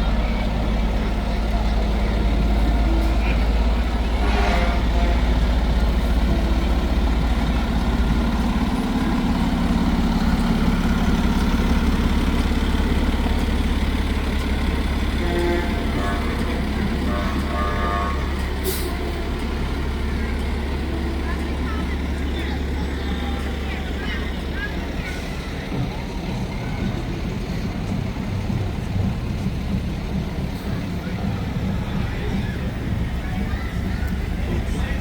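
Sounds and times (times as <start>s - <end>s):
fire truck diesel engine droning: 0.0s - 35.0s.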